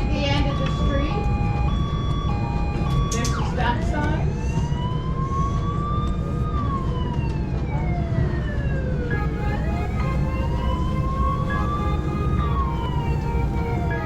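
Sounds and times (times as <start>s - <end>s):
engine and road rumble: 0.0s - 14.0s
police siren wailing: 0.0s - 14.0s.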